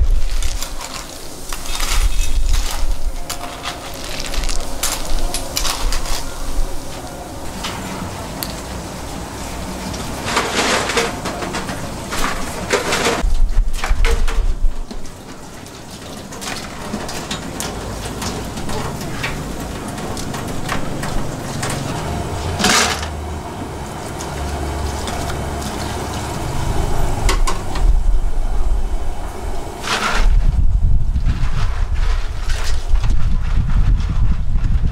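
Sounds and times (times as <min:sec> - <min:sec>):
food bubbling: 0:00.0 - 0:13.8, 0:14.5 - 0:30.6.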